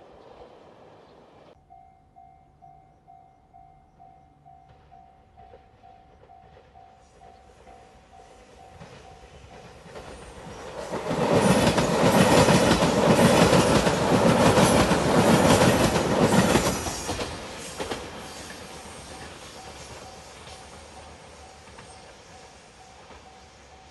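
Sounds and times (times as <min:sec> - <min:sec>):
train wheels clattering: 0:04.6 - 0:23.9.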